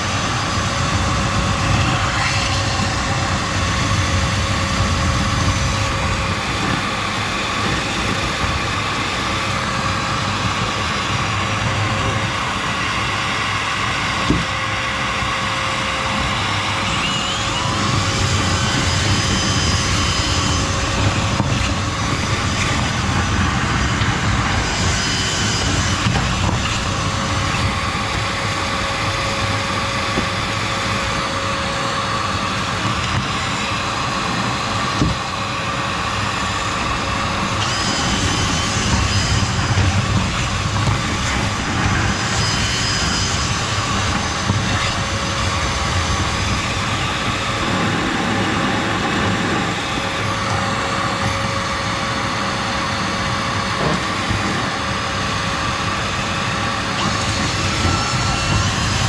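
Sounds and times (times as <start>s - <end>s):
vacuum motor whine: 0.0s - 59.0s.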